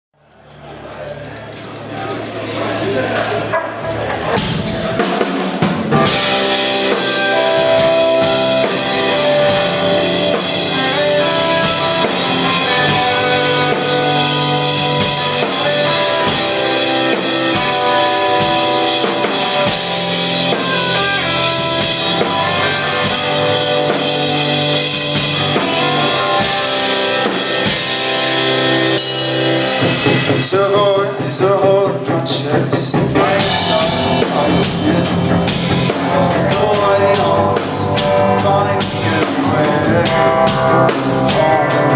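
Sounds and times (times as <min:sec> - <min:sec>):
live band playing: 0:01.9 - 0:41.9
sustained guitar chords: 0:03.2 - 0:41.9
drum kit steady beat: 0:04.2 - 0:41.9.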